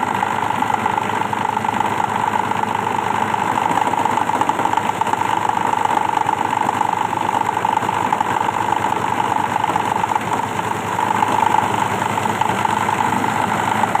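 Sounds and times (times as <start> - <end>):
plastic shredding machine clatter: 0.0 - 14.0.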